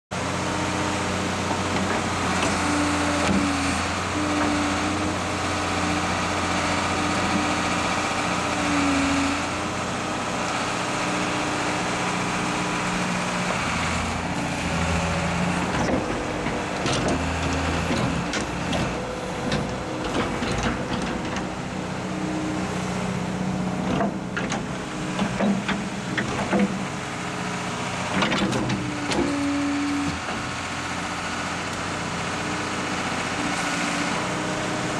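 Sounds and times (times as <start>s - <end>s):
large engine running: 0.1s - 34.9s.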